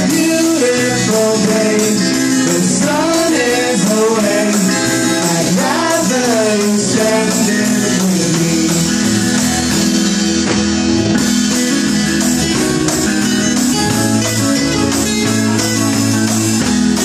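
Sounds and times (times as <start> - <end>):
acoustic guitar: 0.0 - 17.0
bass guitar: 0.0 - 17.0
drum kit: 0.0 - 17.0
keyboard: 0.0 - 17.0.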